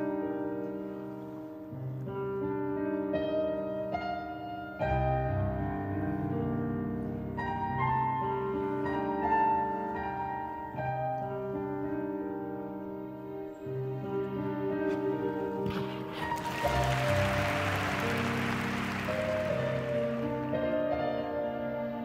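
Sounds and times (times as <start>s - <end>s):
classical piano music: 0.0s - 22.0s.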